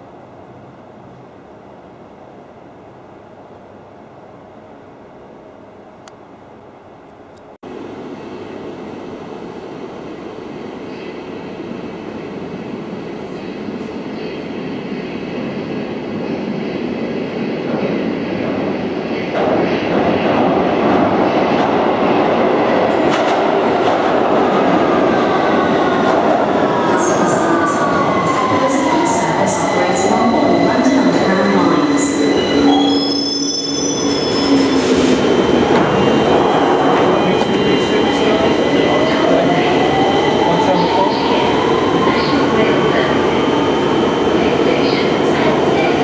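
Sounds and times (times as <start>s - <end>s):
train approaching through tunnel: 0.0s - 46.0s.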